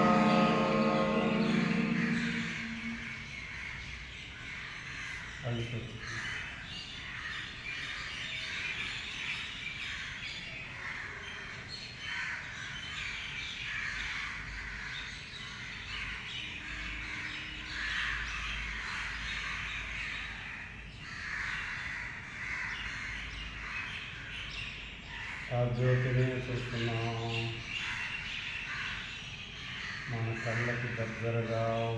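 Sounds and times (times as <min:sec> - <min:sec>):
birds chirping chorus: 0:00.0 - 0:31.9.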